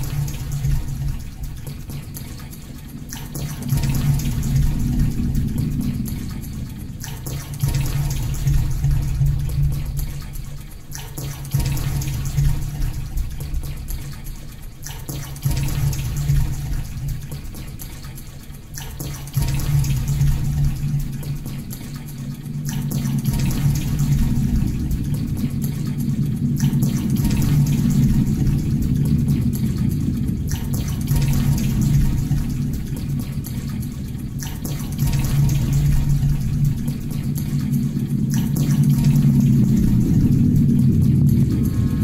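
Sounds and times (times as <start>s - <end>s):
rushing water-like ambient sound: 0.0s - 42.0s
steady low hum: 0.0s - 42.0s.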